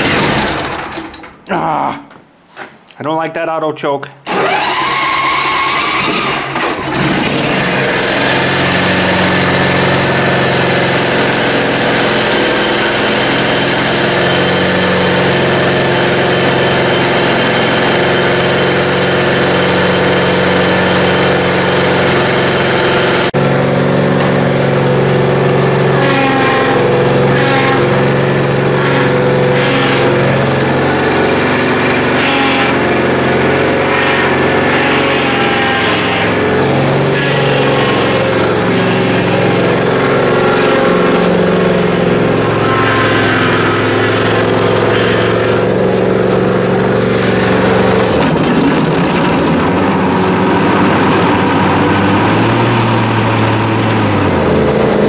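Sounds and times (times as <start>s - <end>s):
lawn mower engine running: 0.0s - 1.5s, 4.2s - 55.0s.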